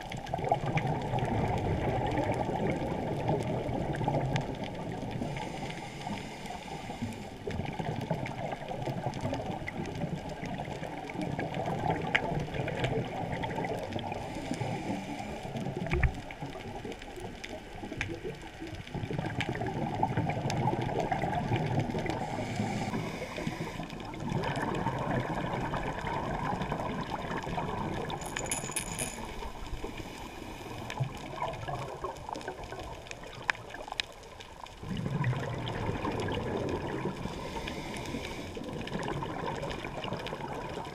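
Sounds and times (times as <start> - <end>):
underwater bubbles gurgling: 0.0 - 28.2, 29.3 - 40.9.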